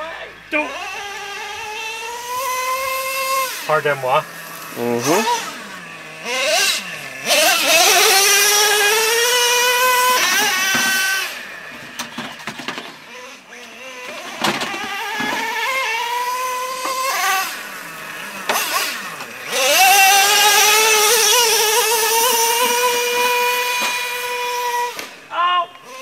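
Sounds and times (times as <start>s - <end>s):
small engine buzzing at high revs: 0.0s - 26.0s.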